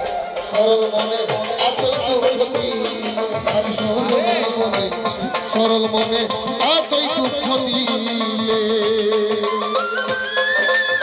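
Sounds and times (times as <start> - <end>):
hand drums beat: 0.0 - 11.0.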